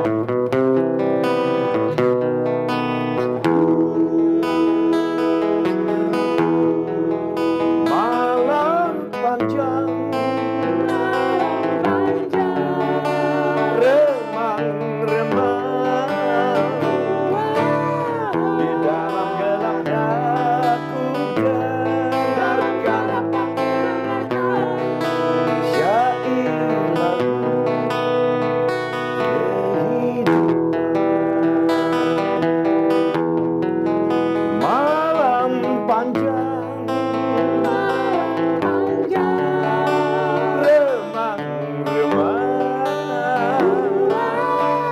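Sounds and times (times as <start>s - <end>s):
person singing: 0.0s - 44.9s
rock song with guitar: 0.0s - 44.9s.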